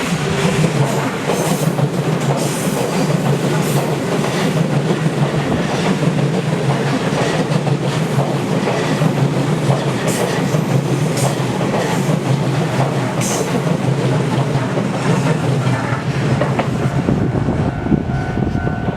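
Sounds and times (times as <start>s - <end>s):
wheels clacking over rail joints: 0.0s - 17.2s
electric train passing: 0.0s - 18.9s.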